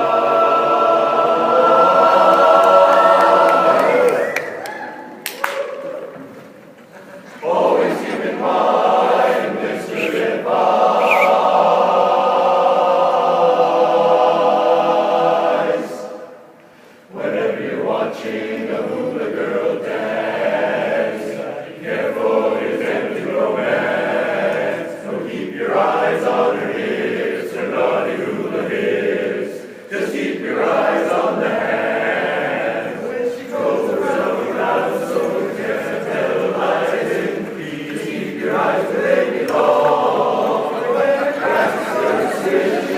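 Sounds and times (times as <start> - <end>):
a cappella chorus singing: 0.0 - 4.6, 7.0 - 42.9.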